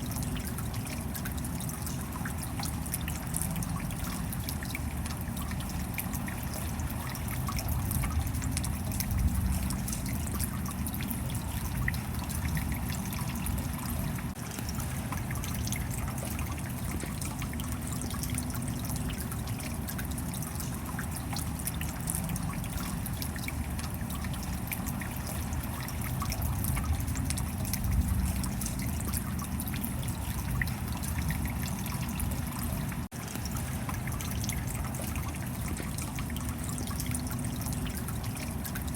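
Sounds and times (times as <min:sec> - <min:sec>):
steady rain: 0:00.0 - 0:38.9
water trickling: 0:00.0 - 0:38.9.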